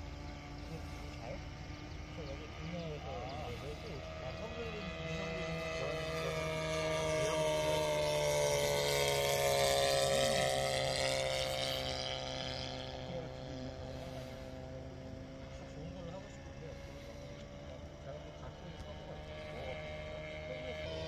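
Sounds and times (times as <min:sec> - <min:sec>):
model airplane buzzing drone: 0:00.0 - 0:21.0.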